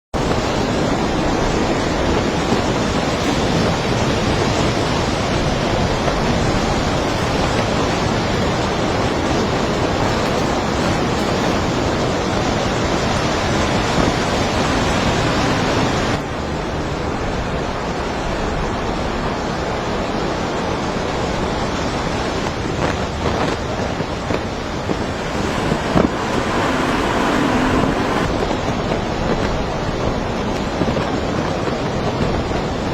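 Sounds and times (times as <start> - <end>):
strong wind on microphone: 0.2 - 32.9.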